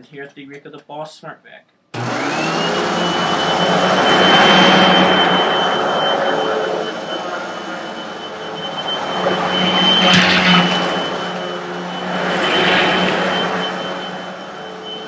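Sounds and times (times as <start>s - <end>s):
vacuum cleaner running: 2.0s - 15.0s.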